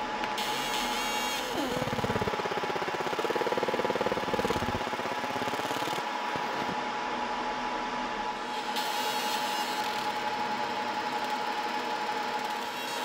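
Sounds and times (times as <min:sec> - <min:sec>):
laser engraver pulsing buzz: 0:00.0 - 0:06.8, 0:07.6 - 0:13.0
steady hum: 0:00.0 - 0:12.5.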